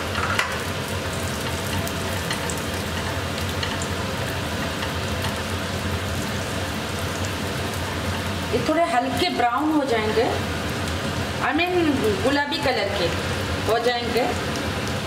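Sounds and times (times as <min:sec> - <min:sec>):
spices frying in oil: 0:00.0 - 0:15.0.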